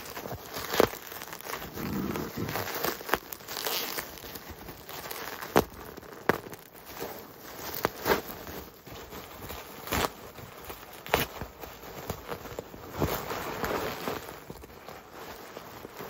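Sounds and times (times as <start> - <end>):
bubble wrap crinkling: 0.0 - 16.0
bubble wrap popping: 0.0 - 16.0.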